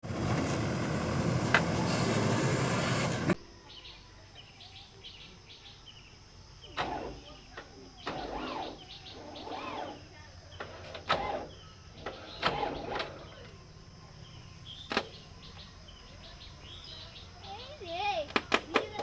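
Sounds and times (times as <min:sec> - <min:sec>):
birds chirping: 0:03.6 - 0:19.0.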